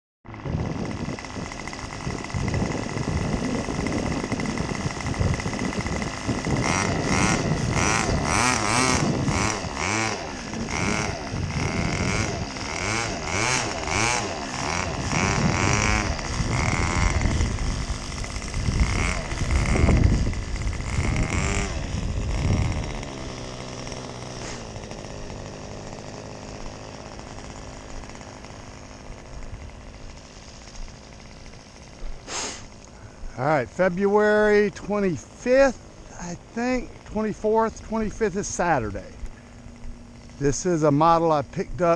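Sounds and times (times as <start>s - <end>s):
model plane engine running: 0.3s - 41.9s.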